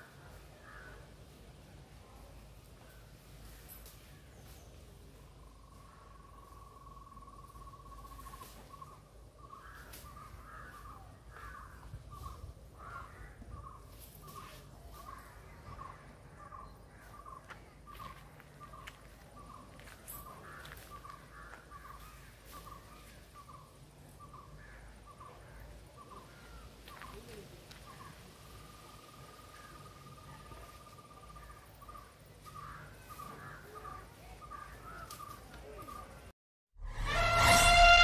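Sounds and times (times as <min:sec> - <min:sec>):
bird calling: 0:05.3 - 0:36.3.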